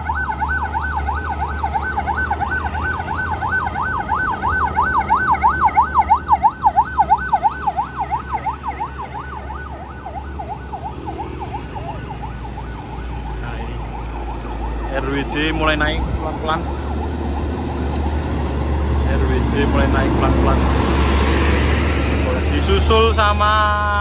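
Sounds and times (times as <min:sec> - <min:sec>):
police siren yelping: 0:00.0 - 0:23.2
heavy truck engines rumbling: 0:00.0 - 0:24.0.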